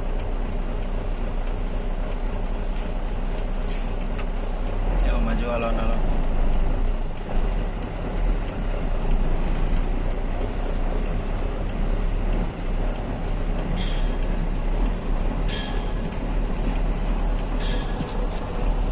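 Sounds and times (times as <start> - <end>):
faint regular ticking: 0.0 - 18.9
truck engine and road noise: 0.0 - 18.9.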